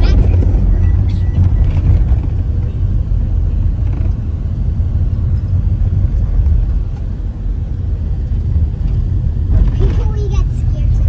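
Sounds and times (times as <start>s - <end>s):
vehicle interior rumble: 0.0s - 11.0s.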